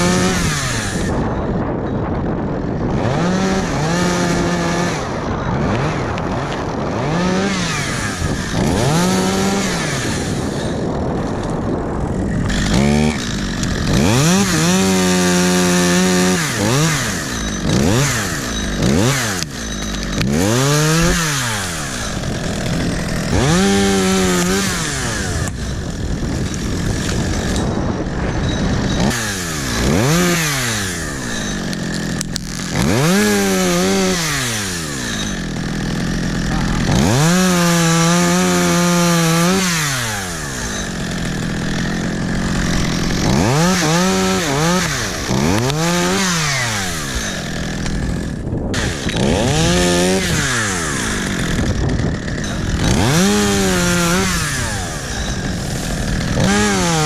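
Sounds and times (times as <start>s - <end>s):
chainsaw revving: 0.0s - 1.7s, 2.5s - 57.0s.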